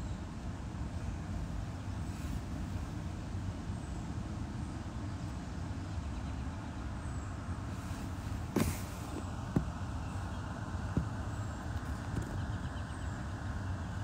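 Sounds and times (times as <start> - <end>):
low rumble inside a car: 0.0 - 14.0.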